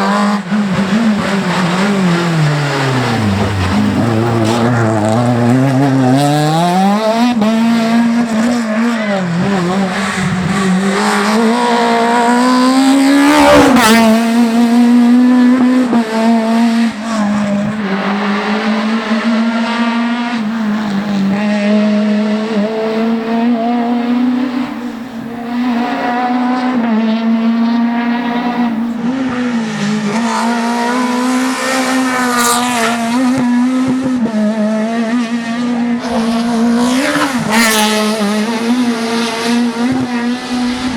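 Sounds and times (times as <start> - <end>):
rally car engine at high revs: 0.0 - 40.9.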